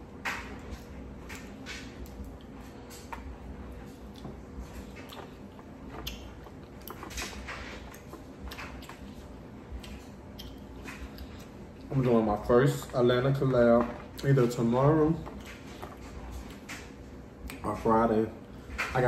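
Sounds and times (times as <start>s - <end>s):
wet eating and chewing: 0.0s - 18.8s.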